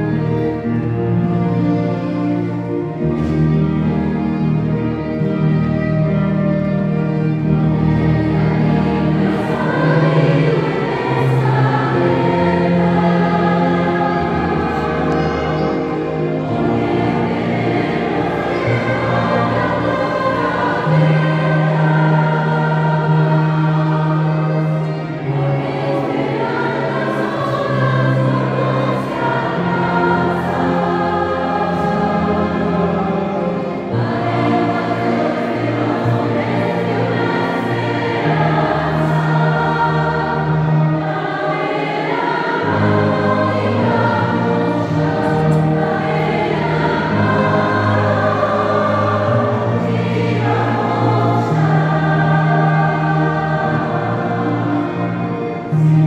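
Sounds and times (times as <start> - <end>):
choir singing: 0.0 - 56.0
instrumental ensemble: 0.0 - 56.0.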